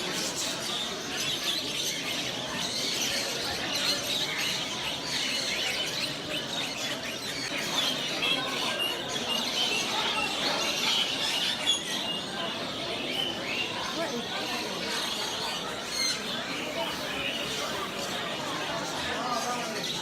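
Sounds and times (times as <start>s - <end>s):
background hubbub: 0.0s - 20.0s
small birds chirping: 0.0s - 20.0s.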